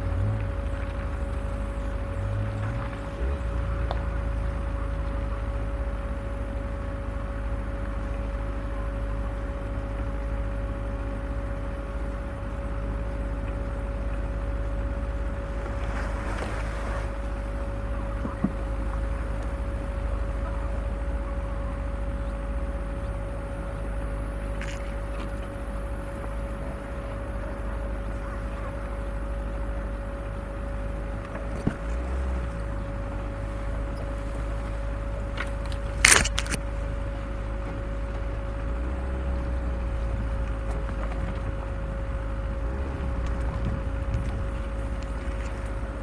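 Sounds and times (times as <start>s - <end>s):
vehicle engine rumbling with whine: 0.0s - 46.0s.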